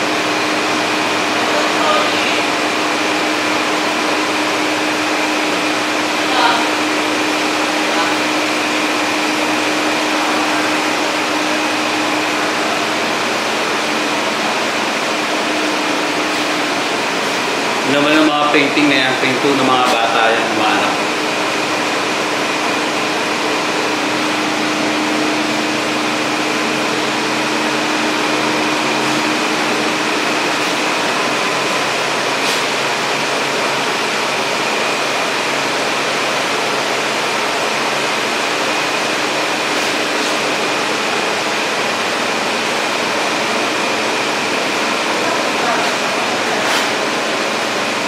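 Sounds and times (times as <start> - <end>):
loud rushing noise: 0.0 - 48.0
thin high whine: 0.0 - 48.0.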